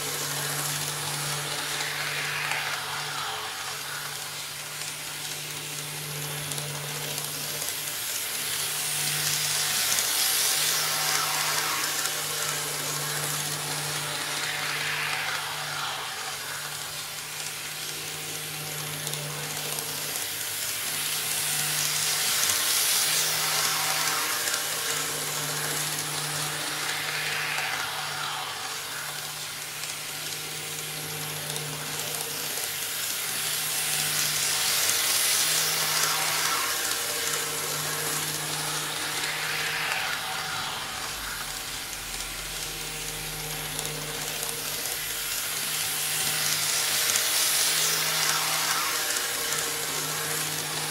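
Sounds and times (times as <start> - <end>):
model train motor hum: 0.0 - 50.9
wheels rattling on rails: 0.0 - 50.9.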